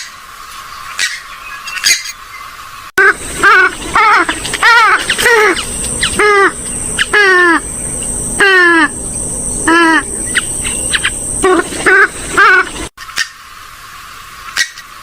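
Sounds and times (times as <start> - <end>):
harsh bird calls sweeping down: 0.7 - 13.6.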